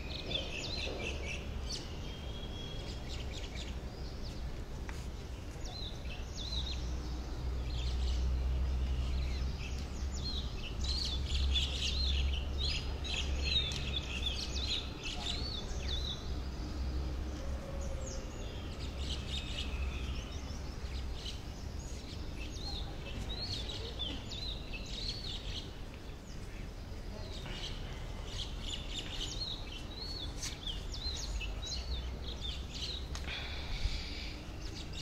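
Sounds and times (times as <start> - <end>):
small birds chirping: 0.0 - 17.4, 18.0 - 35.0.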